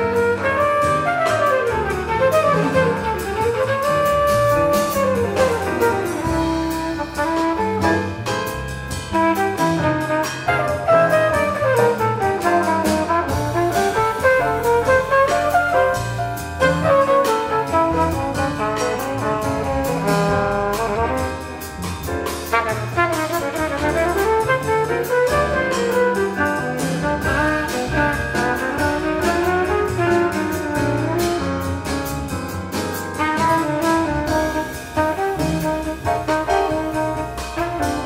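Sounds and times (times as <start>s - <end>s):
flugelhorn melody: 0.0s - 21.8s, 22.5s - 38.0s
piano: 0.0s - 38.0s
walking upright bass: 0.0s - 38.0s.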